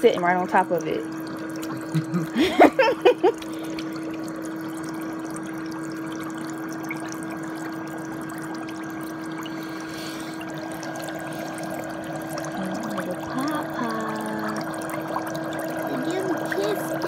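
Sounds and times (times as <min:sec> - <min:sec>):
foot spa motor hum: 0:00.0 - 0:17.0
water bubbling from air jets: 0:00.0 - 0:17.0.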